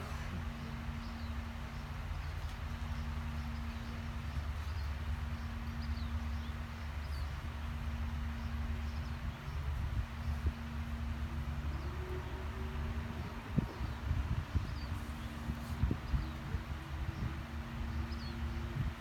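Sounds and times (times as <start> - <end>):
constant hum: 0.0 - 19.0
steady low rumble: 0.0 - 19.0.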